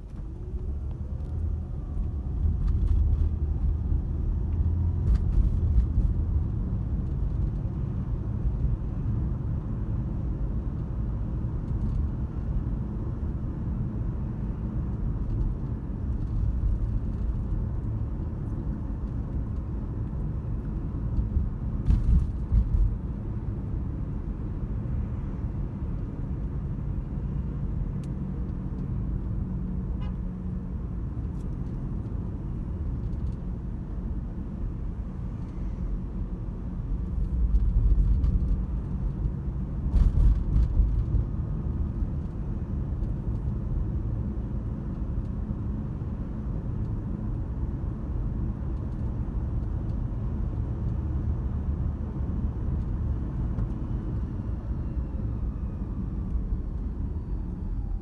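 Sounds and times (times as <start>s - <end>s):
car cabin road noise: 0.0s - 58.0s.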